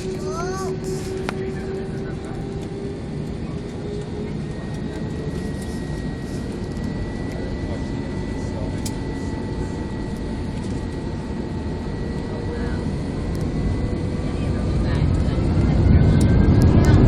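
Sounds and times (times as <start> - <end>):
high engine whine: 0.0 - 17.0
jet engine rumble and hiss: 0.0 - 17.0.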